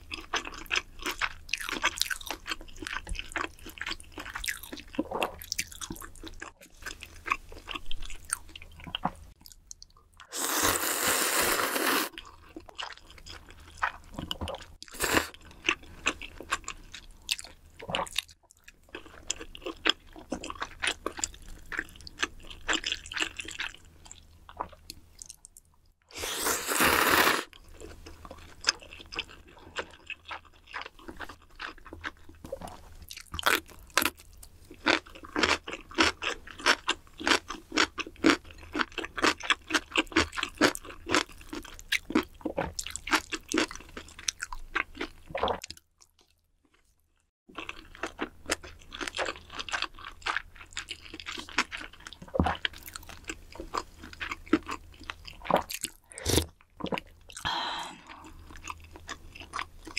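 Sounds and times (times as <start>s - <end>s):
close chewing of noodles: 0.0s - 59.9s.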